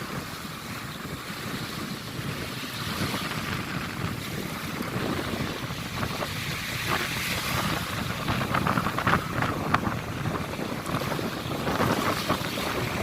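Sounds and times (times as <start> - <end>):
sea water splashing: 0.0 - 13.0
sharp splashy crackles: 0.0 - 13.0
wind buffeting microphone: 0.0 - 13.0.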